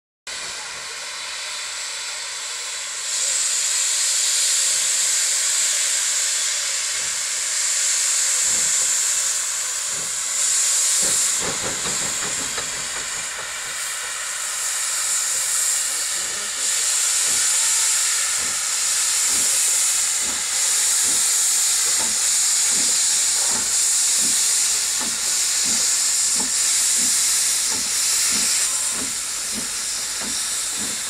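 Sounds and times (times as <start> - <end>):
steam locomotive hissing: 0.3 - 31.0.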